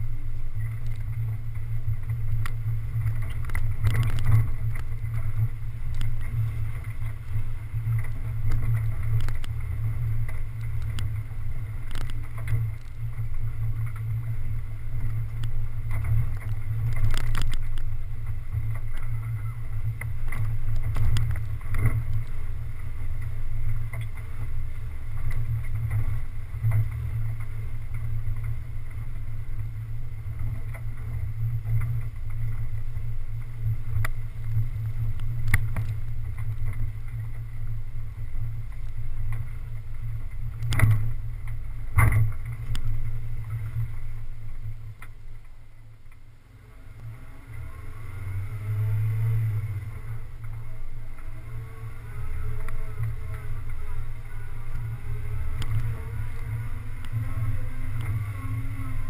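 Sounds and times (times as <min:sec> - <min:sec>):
engine and drivetrain rumble: 0:00.0 - 0:59.0.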